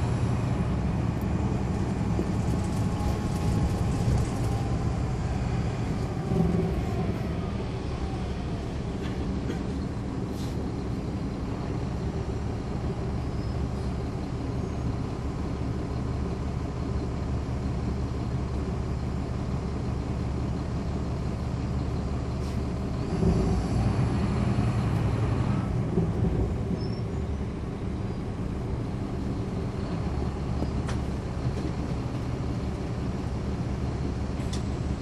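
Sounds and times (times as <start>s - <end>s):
bus diesel engine running: 0.0s - 35.0s.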